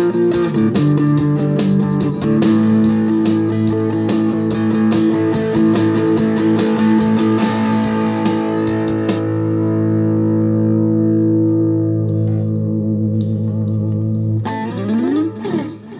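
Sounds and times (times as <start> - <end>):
strummed guitar chords: 0.0 - 15.9.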